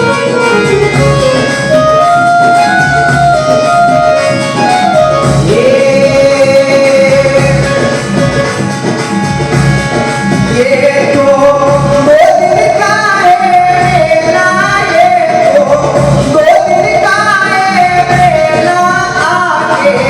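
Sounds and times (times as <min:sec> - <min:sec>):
devotional music with steady beat: 0:00.0 - 0:20.0.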